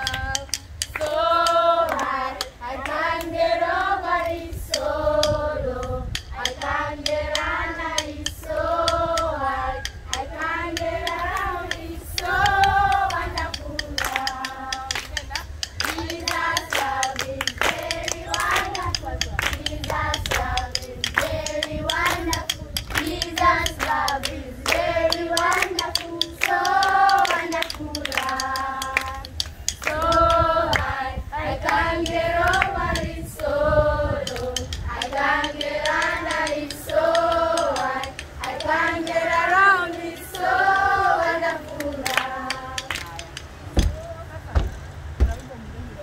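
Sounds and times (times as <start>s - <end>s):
hand clapping: 0.0s - 5.4s, 6.2s - 31.0s, 31.6s - 33.5s, 34.1s - 44.0s
group singing a praise song: 0.0s - 44.0s.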